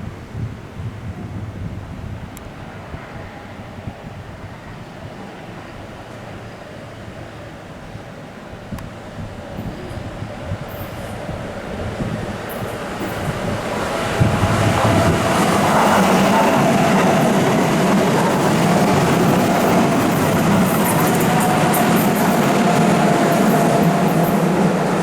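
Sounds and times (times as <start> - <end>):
electric train on rails: 0.0 - 25.0.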